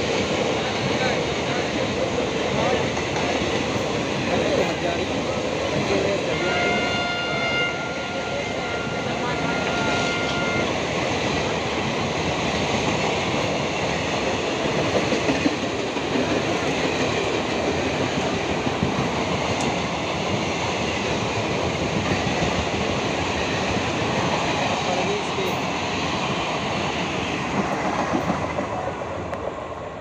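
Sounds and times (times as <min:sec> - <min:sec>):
train wheels running on rails: 0:00.0 - 0:30.0.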